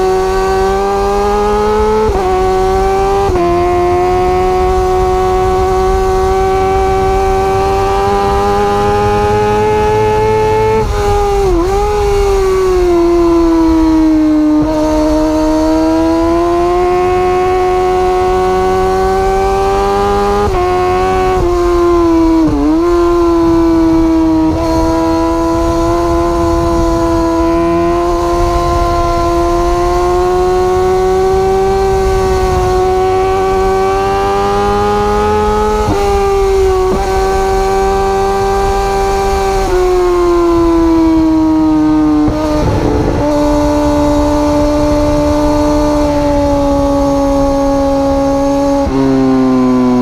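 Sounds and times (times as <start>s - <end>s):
motorcycle engine at high revs: 0.0s - 50.0s.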